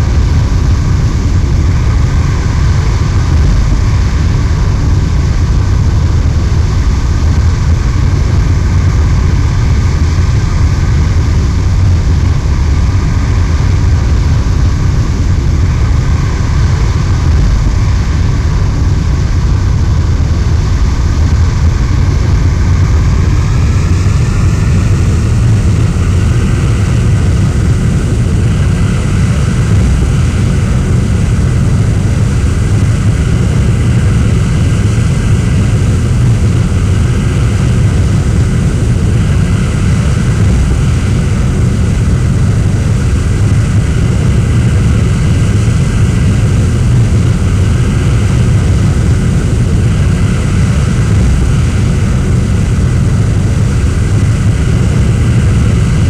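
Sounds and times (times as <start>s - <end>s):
jet engine roaring: 7.9s - 56.0s.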